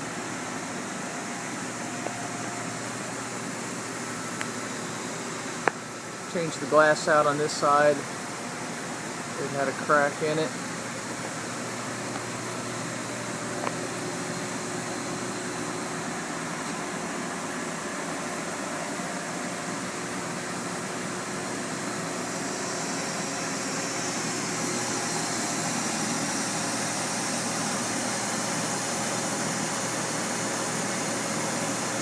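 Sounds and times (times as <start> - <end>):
mechanical hum with hiss: 0.0 - 32.0.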